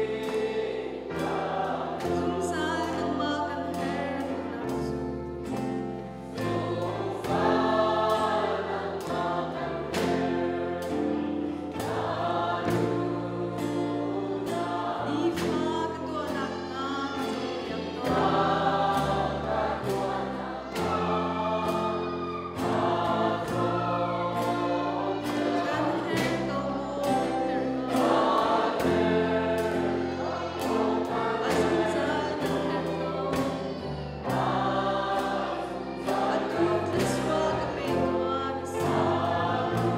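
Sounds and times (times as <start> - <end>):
congregation singing: 0.0 - 39.9
electric guitar: 0.0 - 39.9.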